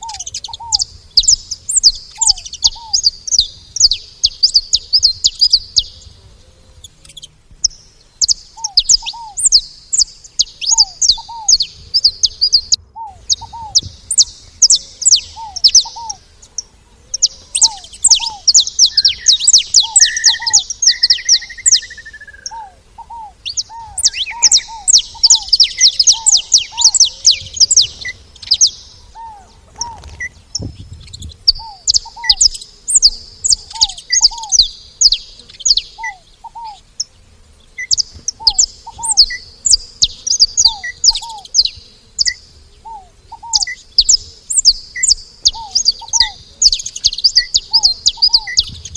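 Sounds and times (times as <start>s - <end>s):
finch chirping in high bursts: 0.0s - 6.1s, 7.0s - 37.2s, 37.8s - 48.9s.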